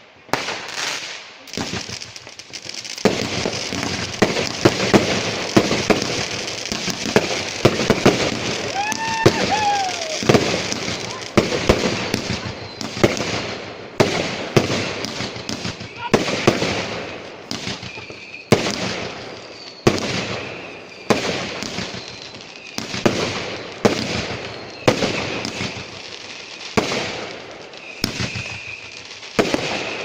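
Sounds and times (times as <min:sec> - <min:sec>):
fireworks bangs with hissing tails: 0:00.0 - 0:30.0
fireworks whistling: 0:00.0 - 0:30.0.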